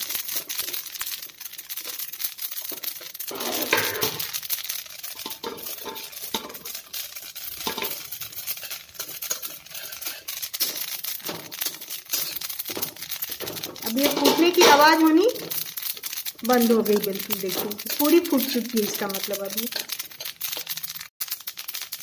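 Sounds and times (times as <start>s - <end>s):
metal spatula scraping: 0.0s - 21.0s
seeds crackling and popping: 0.0s - 22.0s.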